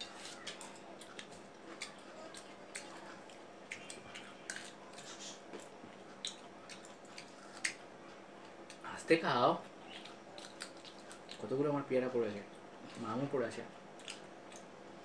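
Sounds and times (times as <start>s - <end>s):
faint steady hum: 0.0s - 15.0s
people chewing crunchy fruit: 0.0s - 15.0s.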